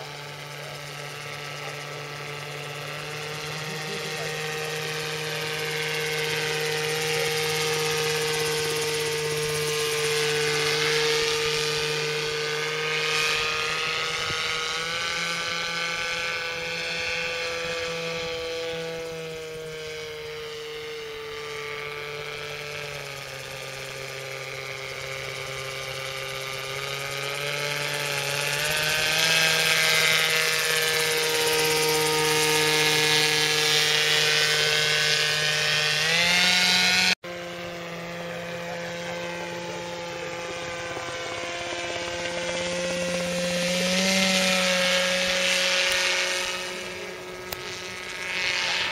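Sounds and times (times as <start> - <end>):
model aircraft motor droning: 0.0 - 48.9.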